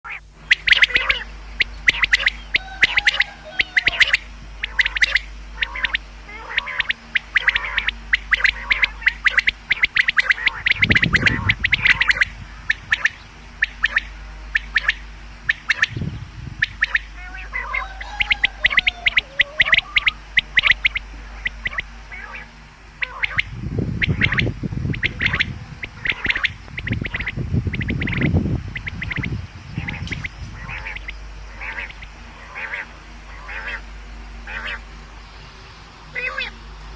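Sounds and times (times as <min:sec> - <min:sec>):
quail calling: 0:00.1 - 0:36.9
low rumble: 0:00.2 - 0:36.9.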